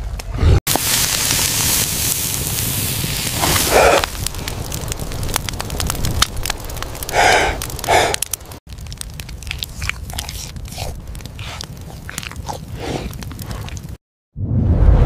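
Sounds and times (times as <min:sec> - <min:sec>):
embers crackling and popping: 0:00.1 - 0:14.0
meat sizzling over fire: 0:00.7 - 0:14.0.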